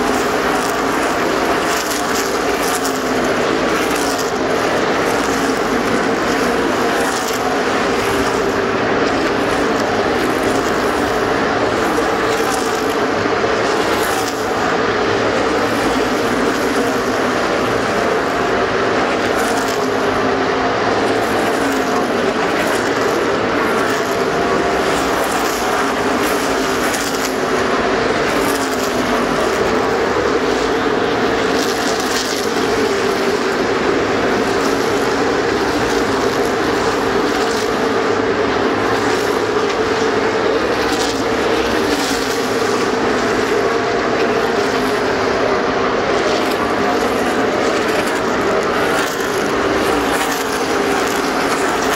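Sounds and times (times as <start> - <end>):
race car engines roaring: 0.0 - 51.9.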